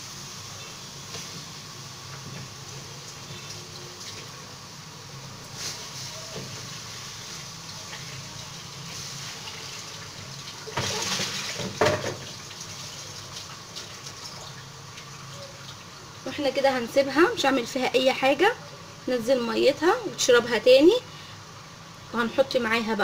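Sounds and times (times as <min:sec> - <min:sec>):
meat hissing and bubbling in pot: 0:00.0 - 0:22.2.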